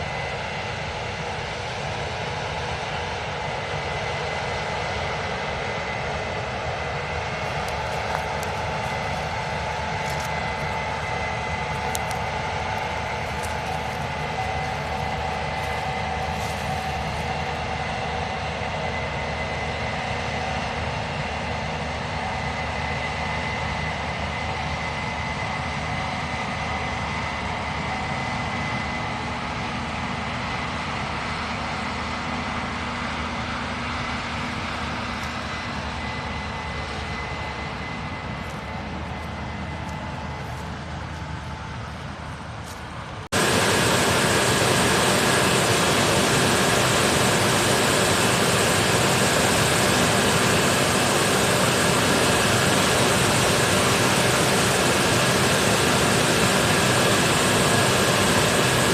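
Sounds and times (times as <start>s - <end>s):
combine machinery drone: 0.0s - 58.9s
steady high whine: 0.0s - 58.9s.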